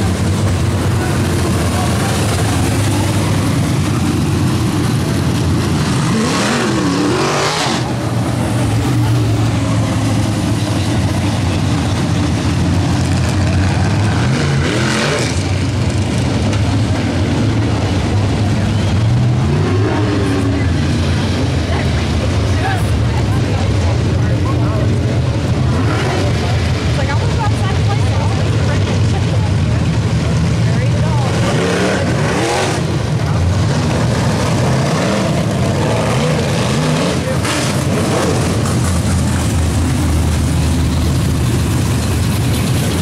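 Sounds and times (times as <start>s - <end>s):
race car engines passing: 0.0s - 43.0s.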